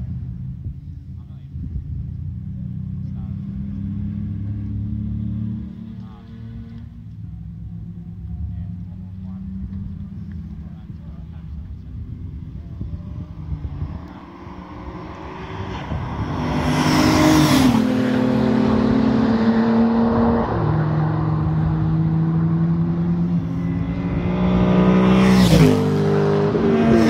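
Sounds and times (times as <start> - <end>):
race cars passing at speed: 2.3 - 27.0.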